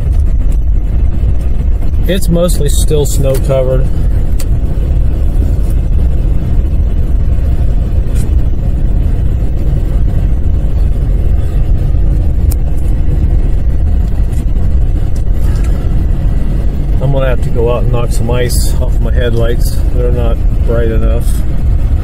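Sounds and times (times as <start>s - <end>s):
car driving on snow: 0.0s - 22.0s.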